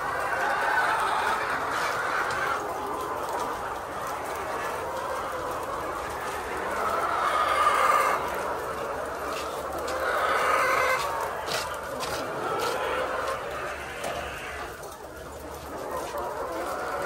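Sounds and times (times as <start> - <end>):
chickens clucking: 0.0 - 17.0
drawn-out chicken calls: 0.0 - 17.0.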